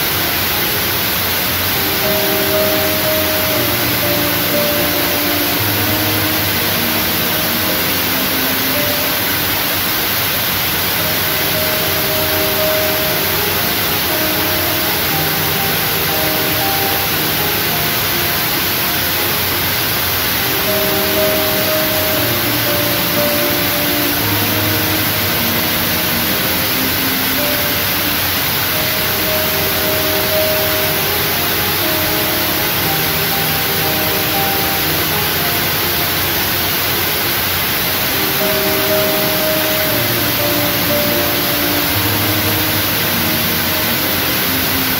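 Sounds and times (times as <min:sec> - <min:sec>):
background music held notes: 0:00.0 - 0:44.9
steady hiss: 0:00.0 - 0:44.9.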